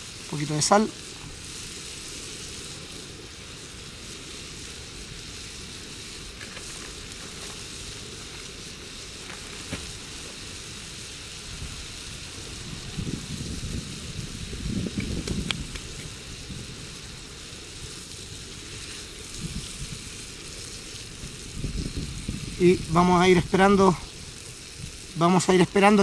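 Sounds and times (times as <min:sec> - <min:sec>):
meat sizzling on a griddle: 0:00.0 - 0:26.0.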